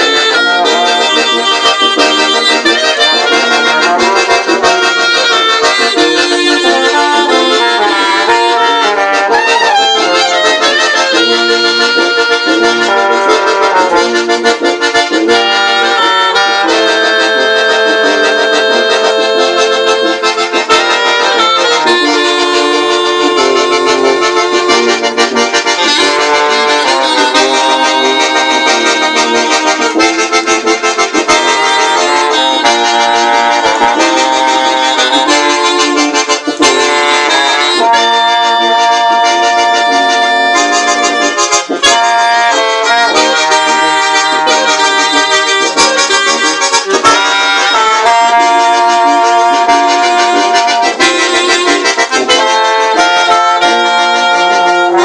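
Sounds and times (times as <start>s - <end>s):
brass and accordion ensemble: 0.0s - 55.0s.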